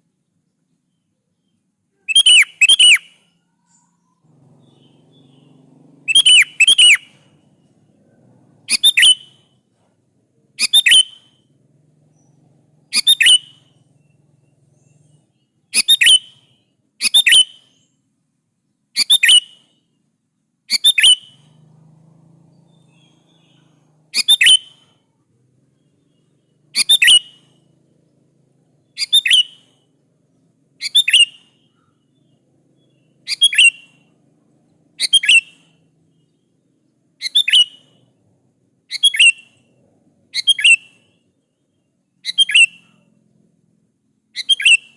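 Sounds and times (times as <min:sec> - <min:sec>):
bird singing whistled notes: 0:00.4 - 0:09.6, 0:10.5 - 0:18.1, 0:18.7 - 0:20.1, 0:20.7 - 0:25.1, 0:25.7 - 0:27.8, 0:28.5 - 0:34.2, 0:34.8 - 0:38.2, 0:38.9 - 0:43.2, 0:44.3 - 0:44.9.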